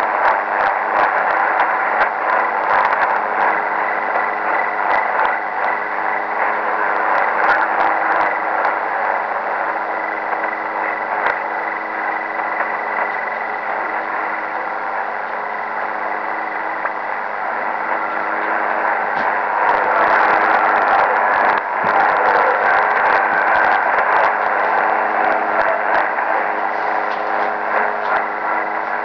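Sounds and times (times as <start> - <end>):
garbled shortwave radio music: 0.0 - 29.0
static crackles: 0.0 - 29.0
steady radio tones: 0.0 - 29.0.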